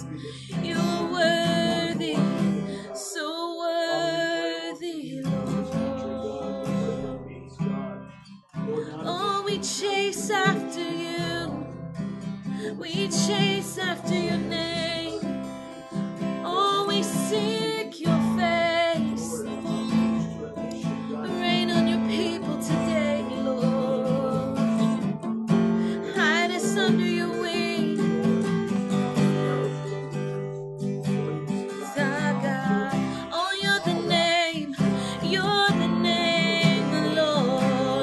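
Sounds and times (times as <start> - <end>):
woman singing: 0.0 - 7.2, 8.7 - 19.8, 20.8 - 30.0, 31.6 - 38.0
acoustic guitar strumming: 0.0 - 38.0.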